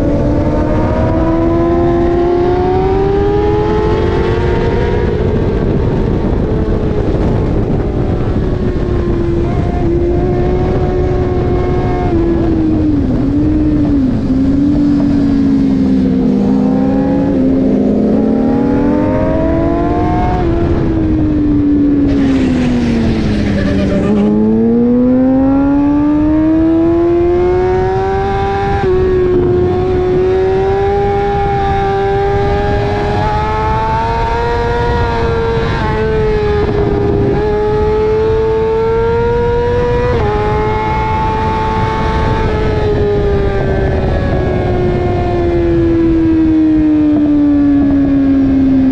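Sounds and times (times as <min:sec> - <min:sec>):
motorcycle engine revving: 0:00.0 - 0:48.9
wind rush: 0:00.0 - 0:48.9.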